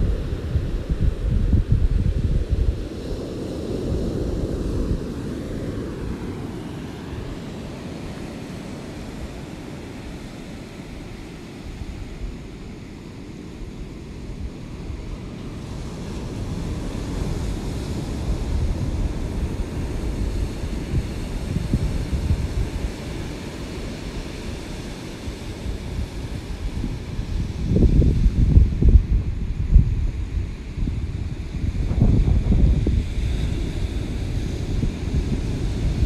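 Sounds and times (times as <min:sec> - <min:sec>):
ocean waves washing in: 0:00.0 - 0:36.0.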